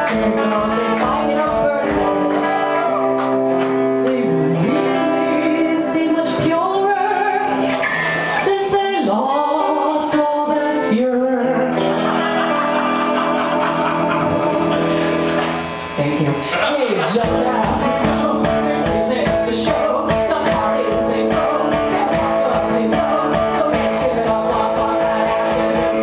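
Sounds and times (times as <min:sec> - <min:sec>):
electric guitar: 0:00.0 - 0:26.0.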